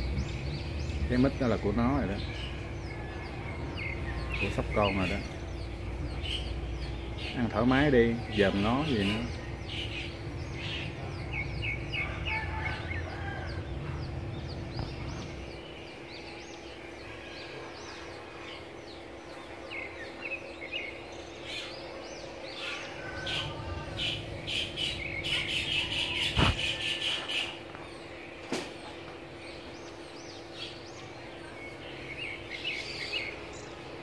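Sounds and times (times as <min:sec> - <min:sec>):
small birds chirping: 0:00.0 - 0:34.0
steady low hum: 0:00.0 - 0:34.0.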